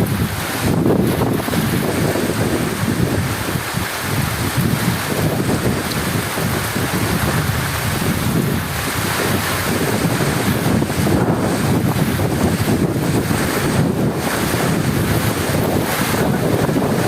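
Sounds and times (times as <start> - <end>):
heavy rain falling: 0.0 - 17.0
wind: 0.0 - 17.0.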